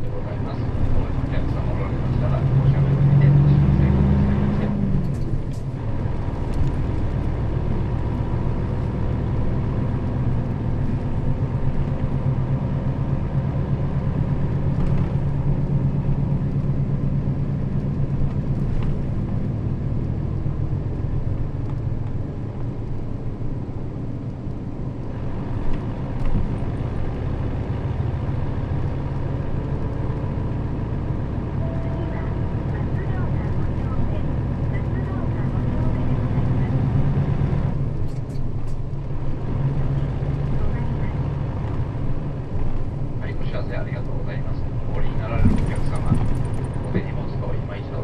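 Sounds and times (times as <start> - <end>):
bus engine humming: 0.0 - 48.0
road noise: 0.0 - 48.0.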